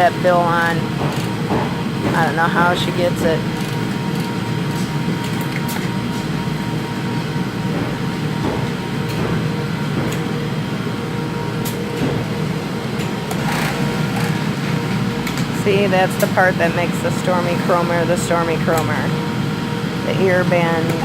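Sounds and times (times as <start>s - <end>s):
sewing machinery hum: 0.0s - 21.0s.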